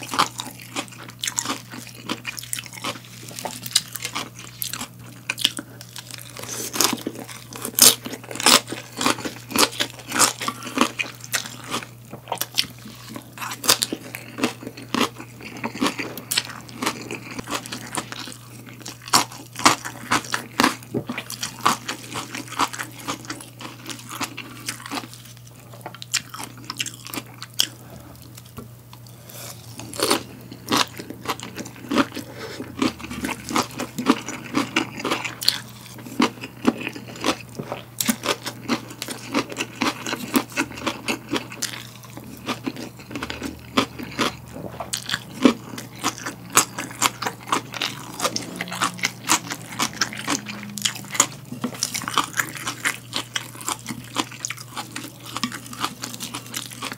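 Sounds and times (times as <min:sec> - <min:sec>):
chewing crunchy salad: 0:00.0 - 0:56.9
low steady hum: 0:00.0 - 0:56.9.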